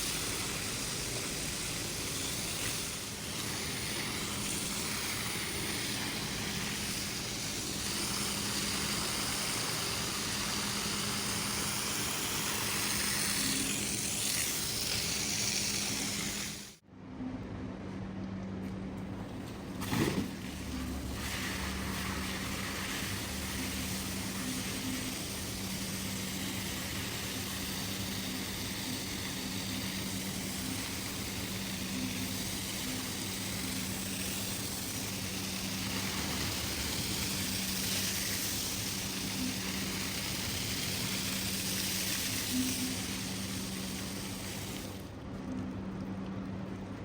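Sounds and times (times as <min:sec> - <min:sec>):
machine humming with hiss: 0:00.0 - 0:16.8, 0:19.1 - 0:47.0.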